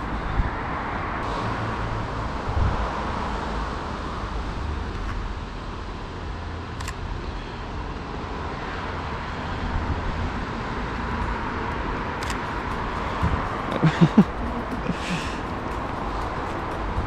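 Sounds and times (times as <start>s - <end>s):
wind rumbling on microphone: 0.0s - 6.2s, 7.8s - 17.0s.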